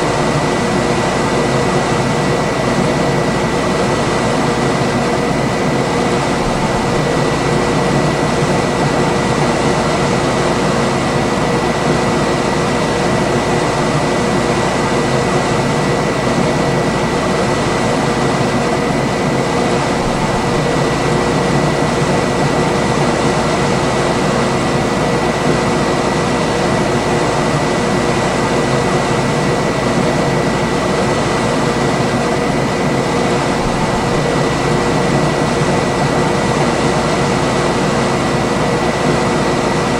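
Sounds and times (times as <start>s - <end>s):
air conditioner humming: 0.0s - 39.9s.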